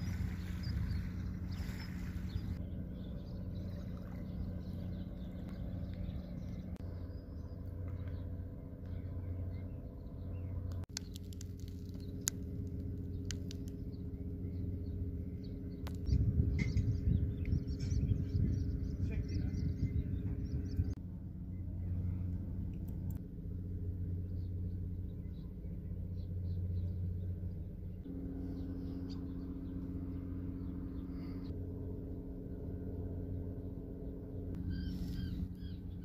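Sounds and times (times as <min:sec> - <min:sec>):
distant engine drone: 0:00.0 - 0:36.0
low rumble: 0:00.0 - 0:36.0.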